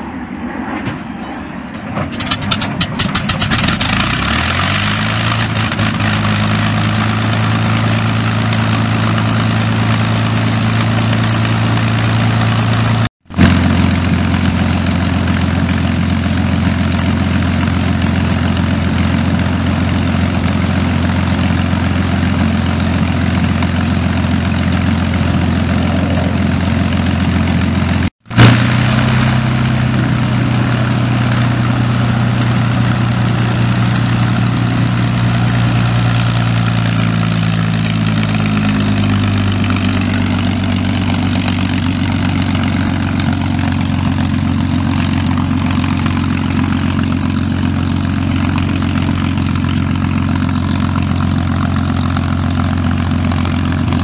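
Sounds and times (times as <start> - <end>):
propeller aircraft engine running: 0.0 - 54.0.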